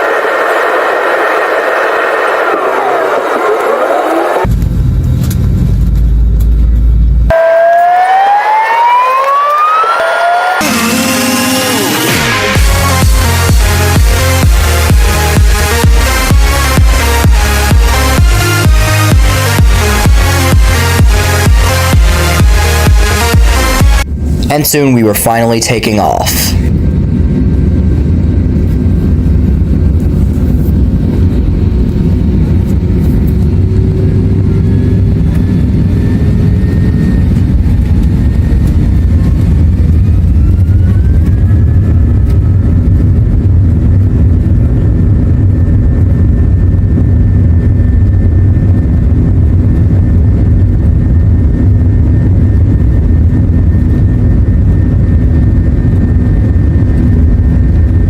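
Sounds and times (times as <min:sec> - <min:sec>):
jet engine whine: 0:00.0 - 0:58.0
jet engines rumbling: 0:00.0 - 0:58.0.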